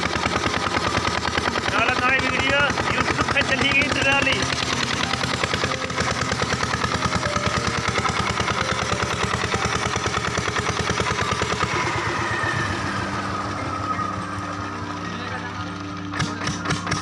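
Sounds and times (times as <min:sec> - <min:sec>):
water rushing from outlet: 0:00.0 - 0:16.7
diesel pump engine chugging: 0:00.0 - 0:17.0
engine whine falling in pitch: 0:00.0 - 0:17.0.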